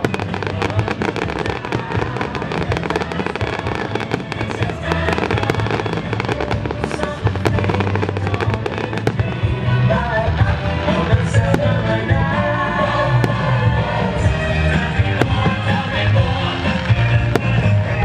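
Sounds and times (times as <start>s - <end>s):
fireworks bursting and crackling: 0.0s - 18.0s
music: 0.0s - 18.0s.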